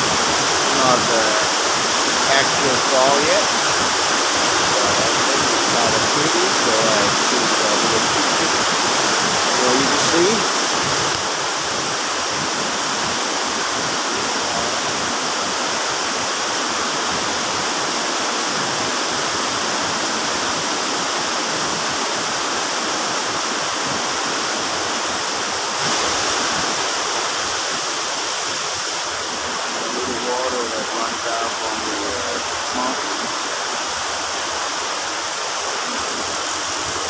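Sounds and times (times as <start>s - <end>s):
waterfall rushing water: 0.0s - 37.0s.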